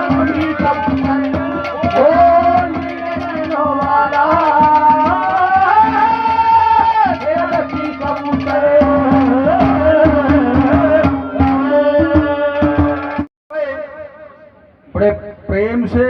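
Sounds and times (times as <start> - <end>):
hand drum fast strokes: 0.0 - 13.3.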